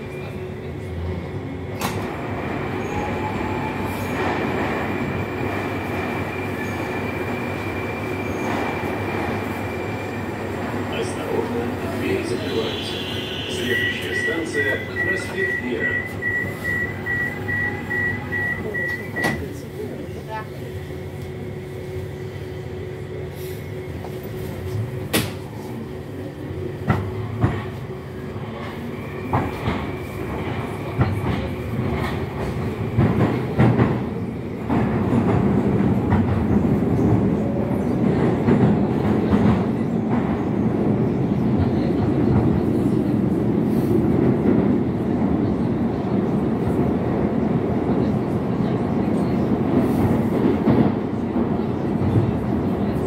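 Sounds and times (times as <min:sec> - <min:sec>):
train wheels on rails: 0:00.1 - 0:22.4, 0:23.2 - 0:53.0.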